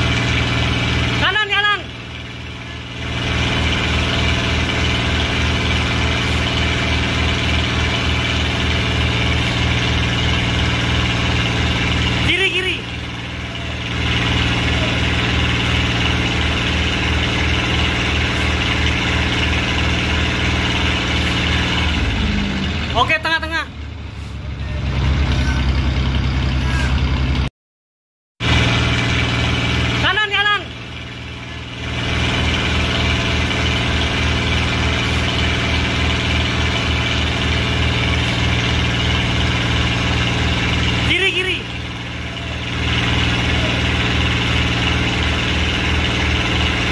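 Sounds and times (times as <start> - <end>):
diesel engine throbbing: 0.0 - 27.5, 28.4 - 46.9.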